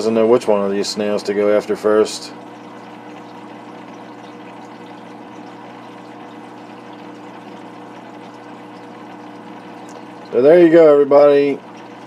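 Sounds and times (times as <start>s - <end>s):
aquarium pump humming: 0.0s - 12.0s
moving water: 0.0s - 12.0s.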